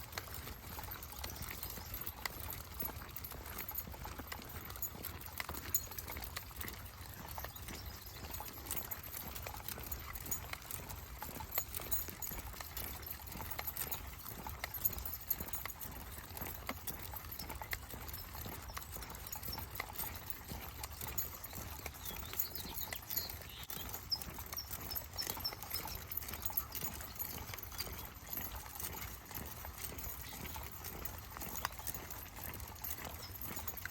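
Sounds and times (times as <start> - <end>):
footsteps of person and dogs: 0.0 - 33.9.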